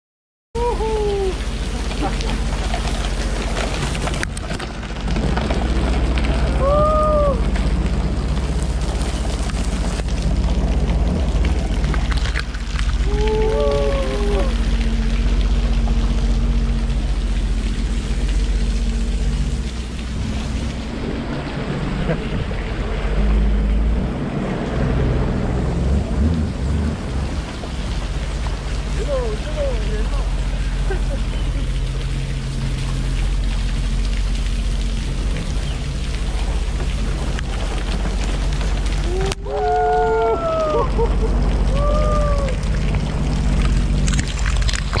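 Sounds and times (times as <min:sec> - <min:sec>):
water falling hiss: 0:00.6 - 0:45.0.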